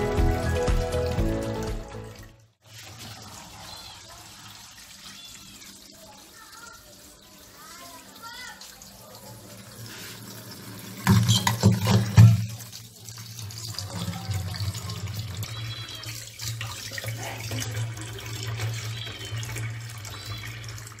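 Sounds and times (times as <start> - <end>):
water running into steel sink: 0.0 - 21.0.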